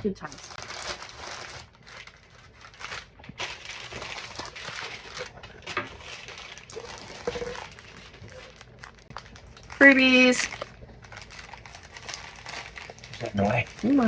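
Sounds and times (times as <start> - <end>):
packaging crinkling: 0.1 - 14.0.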